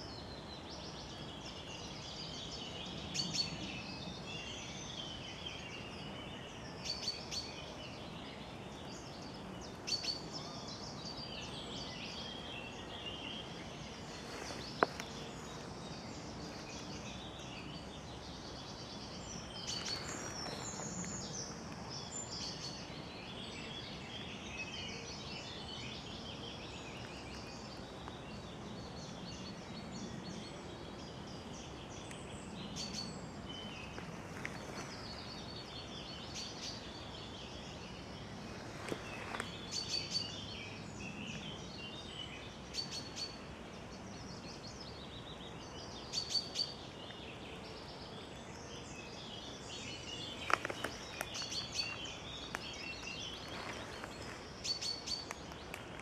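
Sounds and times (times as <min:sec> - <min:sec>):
songbirds singing and calling: 0:00.0 - 0:56.0
steady background hiss: 0:00.0 - 0:56.0.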